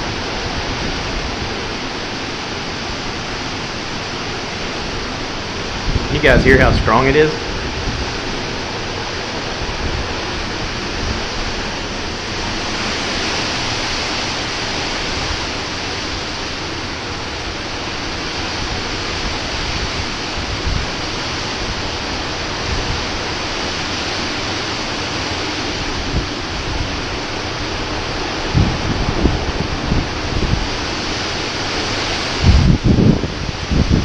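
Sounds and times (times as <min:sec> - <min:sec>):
strong wind rushing: 0:00.0 - 0:34.0
wind buffeting microphone: 0:00.0 - 0:34.0.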